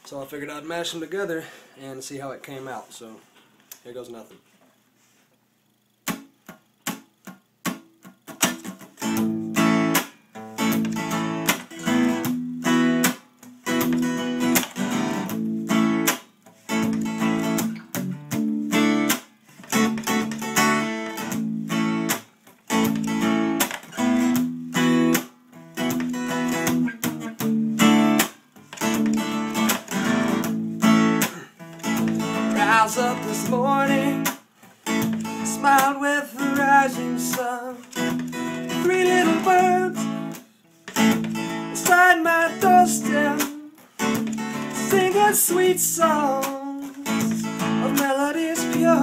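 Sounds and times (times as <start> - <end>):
acoustic guitar plucks: 6.0 - 49.0
acoustic guitar strummed chords: 6.0 - 49.0.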